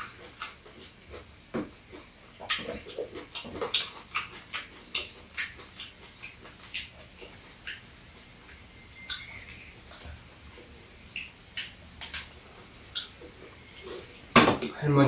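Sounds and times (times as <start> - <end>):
wet chewing and lip smacks: 0.0 - 14.3.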